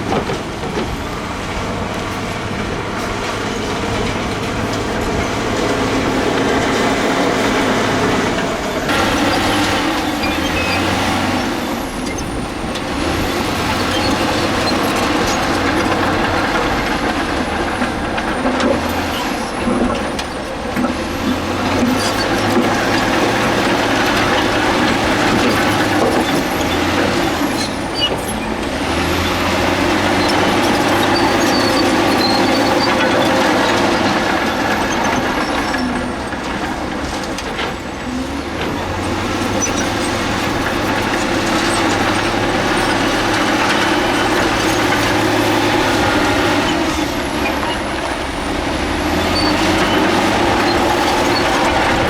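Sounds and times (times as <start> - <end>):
diesel engine drone: 0.0 - 52.0
loud rattling and scraping: 0.0 - 52.0.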